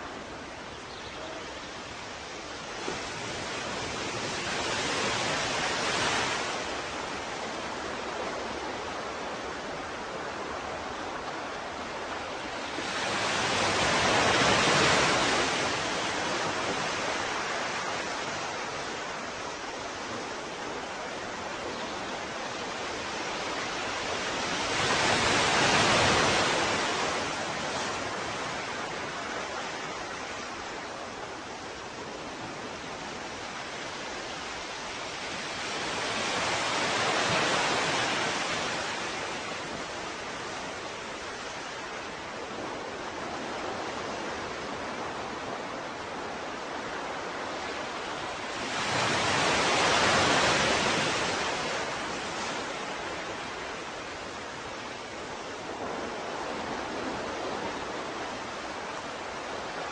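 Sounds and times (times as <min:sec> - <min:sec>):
ocean waves washing in: 0:00.0 - 0:59.9
surf hiss: 0:00.0 - 0:59.9.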